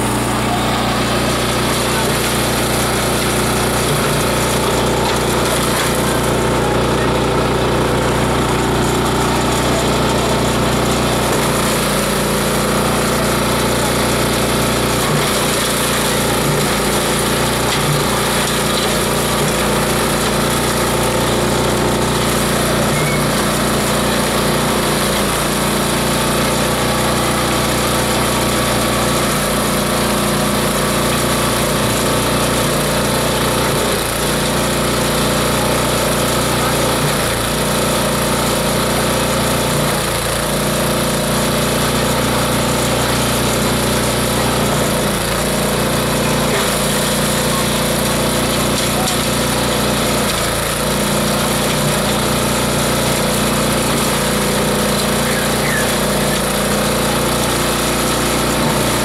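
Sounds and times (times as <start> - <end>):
shredder running: 0.0 - 59.0.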